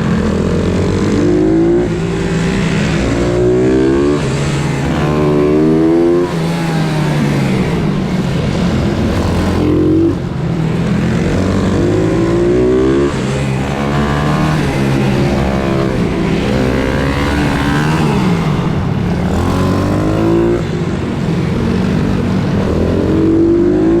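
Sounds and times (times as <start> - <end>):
pit bike engines revving: 0.0 - 24.0.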